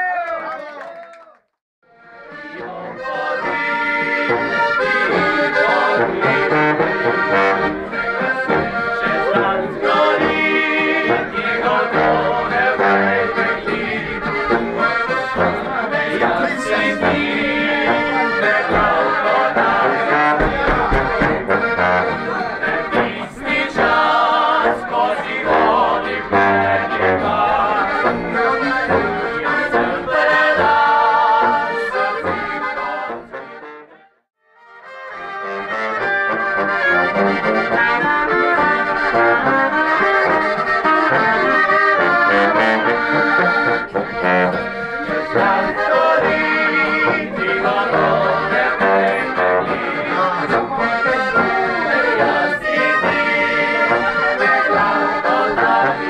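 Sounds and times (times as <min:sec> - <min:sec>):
accordion and brass folk tune: 0:01.8 - 0:56.0.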